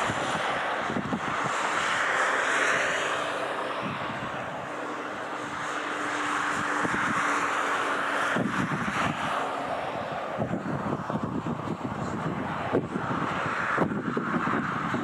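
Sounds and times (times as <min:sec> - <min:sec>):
distant jet whine: 0:00.0 - 0:15.0
low fluttering rumble: 0:00.0 - 0:15.0.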